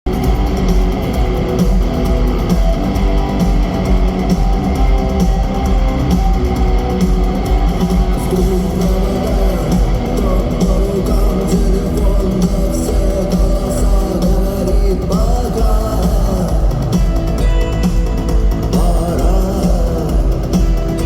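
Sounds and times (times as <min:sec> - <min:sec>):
bass guitar: 0:00.0 - 0:21.0
electric guitars: 0:00.1 - 0:21.0
steady drum beat: 0:00.1 - 0:21.0.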